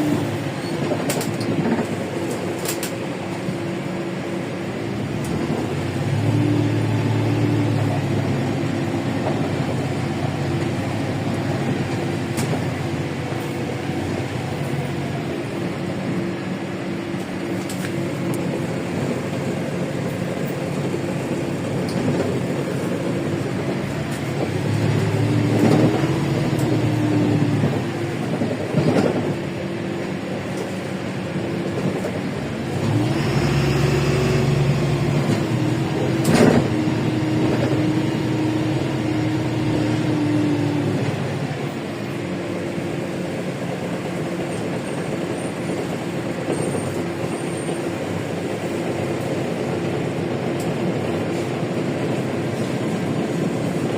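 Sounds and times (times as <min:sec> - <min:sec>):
bus body rattles: 0:00.0 - 0:06.2, 0:06.9 - 0:53.9
bus diesel engine running: 0:00.0 - 0:53.9
road and cabin noise: 0:00.0 - 0:53.9.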